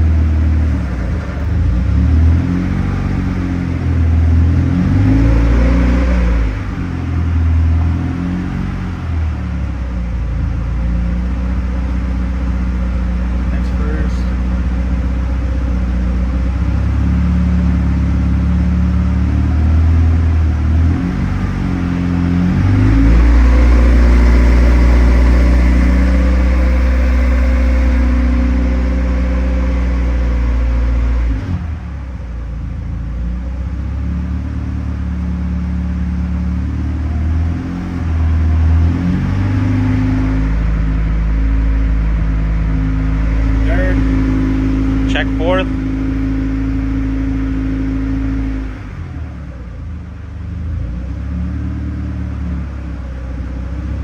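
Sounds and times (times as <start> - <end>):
car engine revving through gears: 0.0 - 9.7, 13.3 - 32.0, 34.0 - 49.9.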